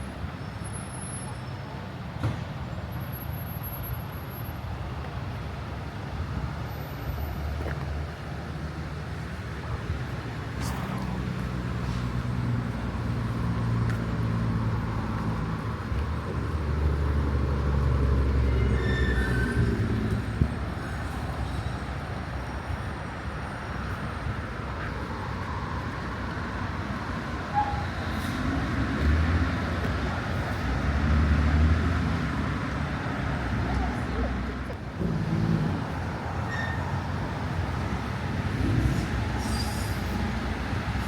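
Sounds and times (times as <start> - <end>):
city traffic rumble: 0.0 - 41.0.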